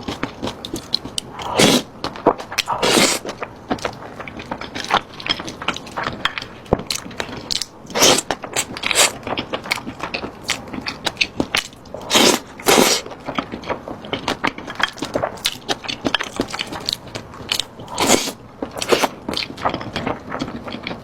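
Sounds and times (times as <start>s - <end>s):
loud crunching: 0.0s - 20.9s
wet chewing clicks: 0.0s - 21.0s.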